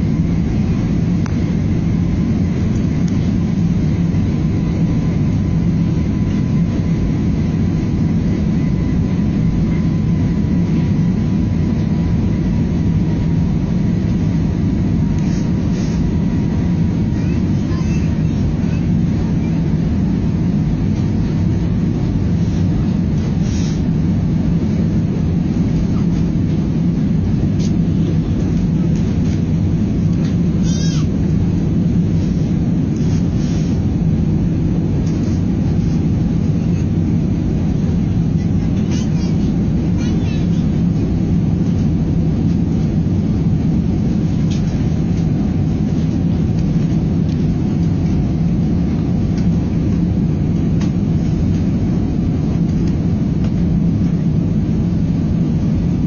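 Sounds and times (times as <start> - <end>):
low rumble with faint hum: 0.0 - 56.0.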